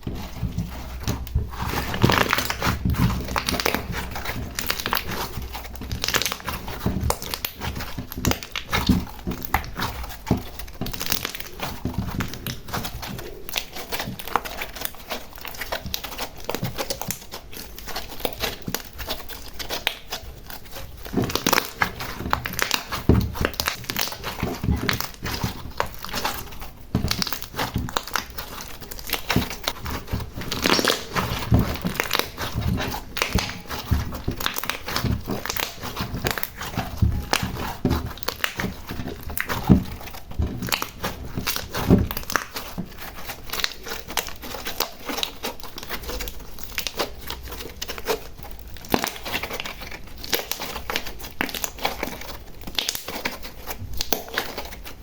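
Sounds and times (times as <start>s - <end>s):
slime crackling and popping: 0.0s - 55.0s.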